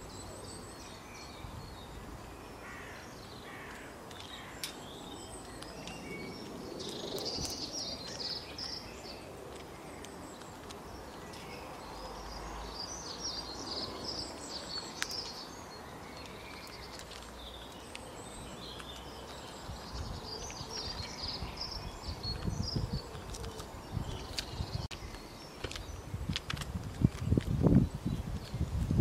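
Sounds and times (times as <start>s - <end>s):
small birds chirping: 0.0s - 29.0s
steady outdoor hiss: 0.0s - 29.0s.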